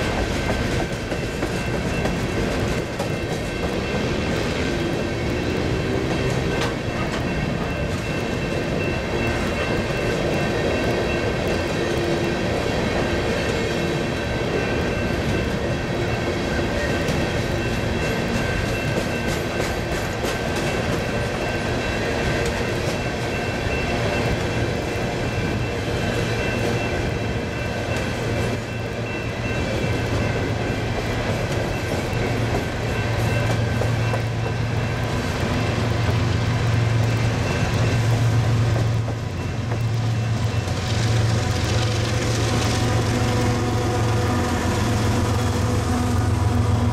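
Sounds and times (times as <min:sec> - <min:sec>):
wheels clicking over rail joints: 0:00.0 - 0:45.4.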